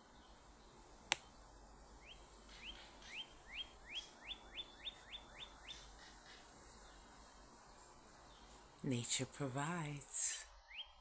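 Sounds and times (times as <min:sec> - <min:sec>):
songbird singing rising notes: 0:00.0 - 0:09.2, 0:10.5 - 0:11.0.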